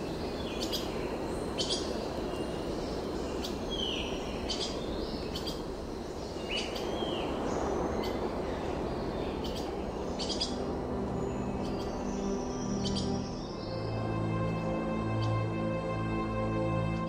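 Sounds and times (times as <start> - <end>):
songbirds chirping: 0.0 - 17.0
steady background rush: 0.0 - 17.0.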